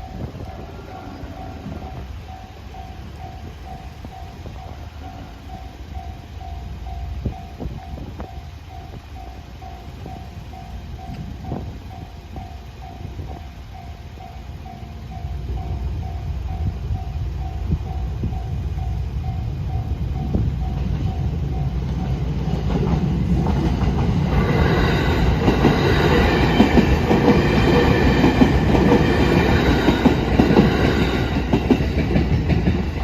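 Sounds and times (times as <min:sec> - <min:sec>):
train wheels clacking over rails: 0:00.0 - 0:33.0.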